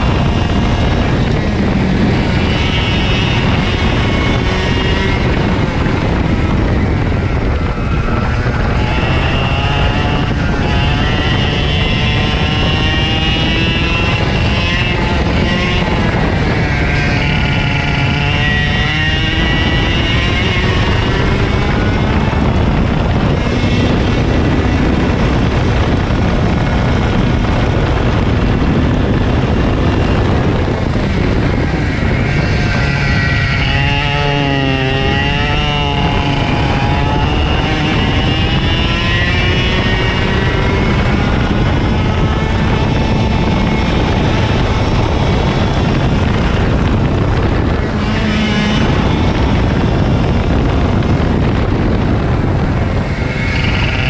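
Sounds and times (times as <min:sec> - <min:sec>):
racing kart engine revving: 0:00.0 - 0:54.0.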